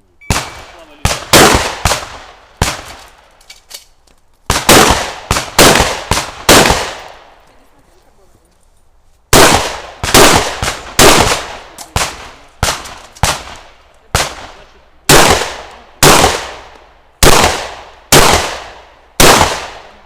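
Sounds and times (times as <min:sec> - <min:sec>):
shotgun blasts with echo: 0:00.3 - 0:03.2, 0:04.5 - 0:07.4, 0:09.3 - 0:20.0.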